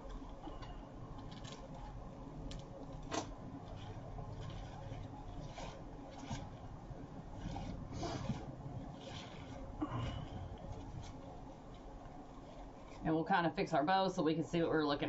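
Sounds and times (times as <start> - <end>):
hands rustling artificial greenery: 0.0 - 14.0.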